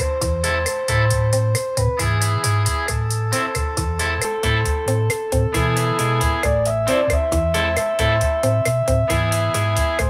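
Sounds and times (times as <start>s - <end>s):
held keyboard tone: 0.0s - 10.0s
music with quick beat: 0.0s - 10.0s
pulsing bass line: 0.0s - 10.0s.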